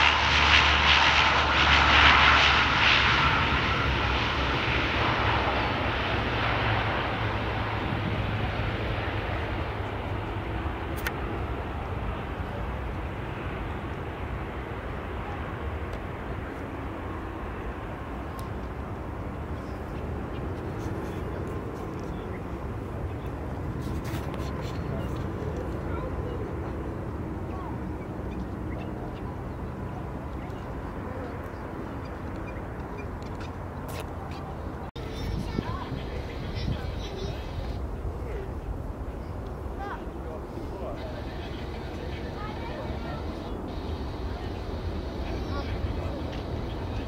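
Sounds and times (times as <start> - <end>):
airliner engines rushing: 0.0 - 47.0
low airport rumble: 0.0 - 47.0.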